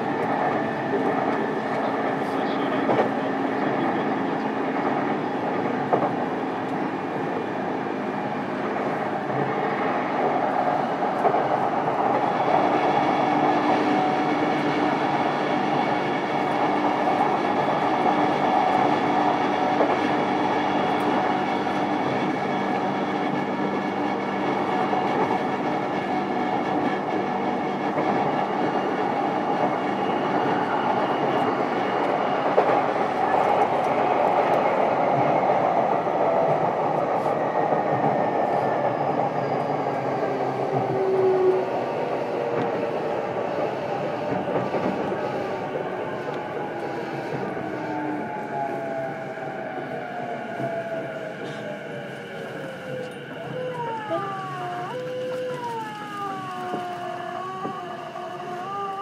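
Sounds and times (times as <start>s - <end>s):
clickety-clack of rail joints: 0.0s - 49.2s, 50.5s - 53.8s, 54.9s - 57.9s
train wheels rumbling on rail: 0.0s - 59.0s.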